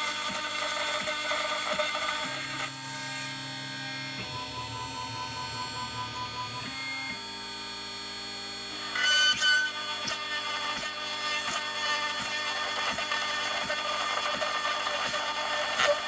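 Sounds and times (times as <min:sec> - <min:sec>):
axis motors driving: 0:00.0 - 0:07.4, 0:09.3 - 0:16.0
milling machine spindle whine: 0:00.0 - 0:16.0.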